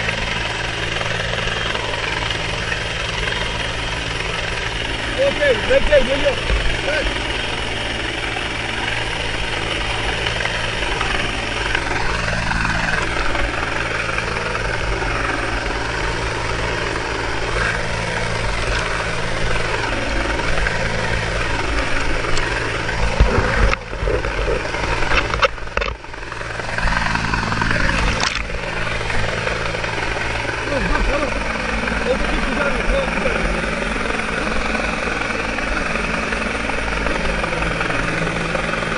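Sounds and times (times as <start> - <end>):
helicopter rotor and engine roar: 0.0 - 38.9.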